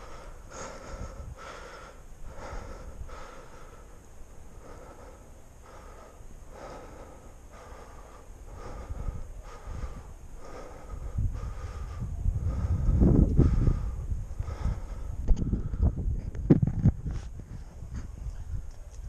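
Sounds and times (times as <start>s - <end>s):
wind rumble on microphone: 0.0s - 4.0s, 4.6s - 19.0s
person breathing hard: 0.0s - 16.2s.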